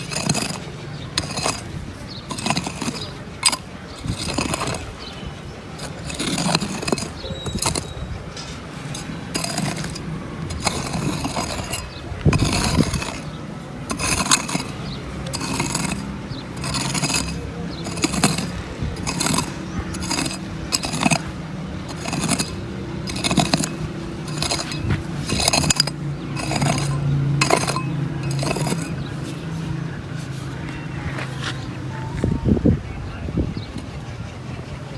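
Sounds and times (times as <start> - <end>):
scraping strokes: 0.0 - 32.5.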